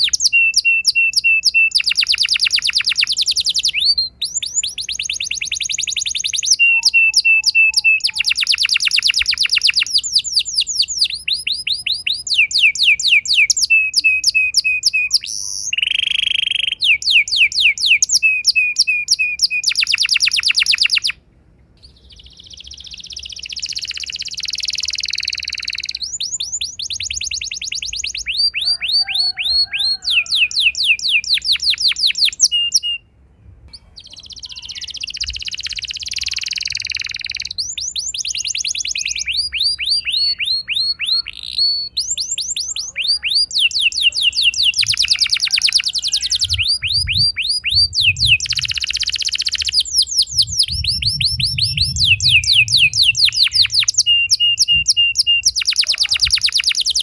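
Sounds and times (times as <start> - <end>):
canary singing trills: 0.0 - 21.2, 21.8 - 33.1, 33.7 - 57.0.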